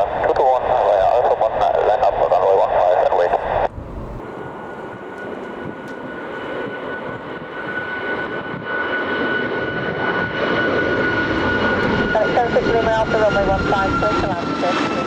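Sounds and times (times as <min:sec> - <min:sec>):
jet airliner engines whining: 0:00.0 - 0:15.0.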